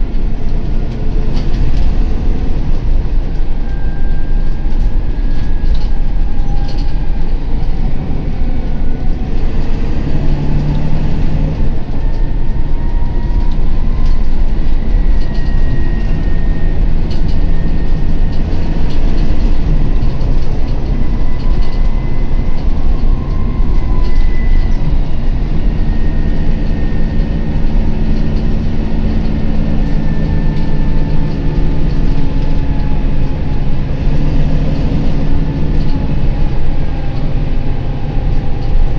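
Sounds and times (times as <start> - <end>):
bus engine and road rumble: 0.0 - 38.9
faint whines: 0.0 - 38.9.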